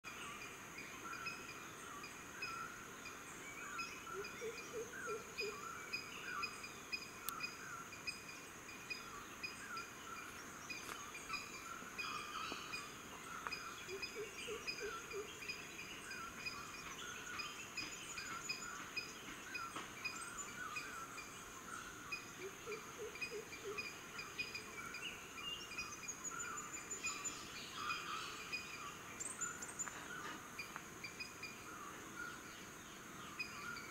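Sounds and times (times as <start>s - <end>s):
birds calling: 0.1s - 33.9s
high insect drone: 0.1s - 33.9s.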